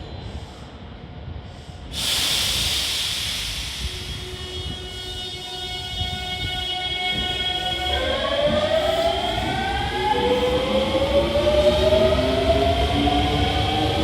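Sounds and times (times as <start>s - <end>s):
train wheels rumbling: 1.8s - 14.0s.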